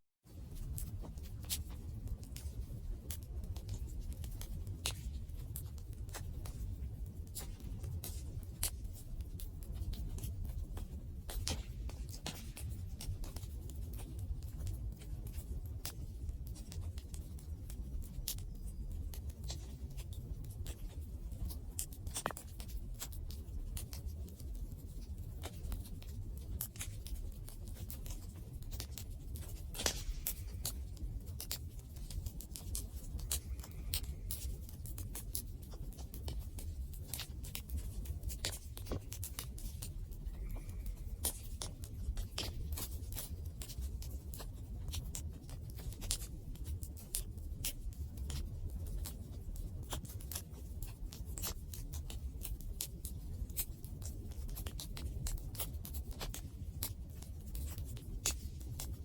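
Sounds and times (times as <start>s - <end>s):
wood fire crackling: 0.5s - 55.6s.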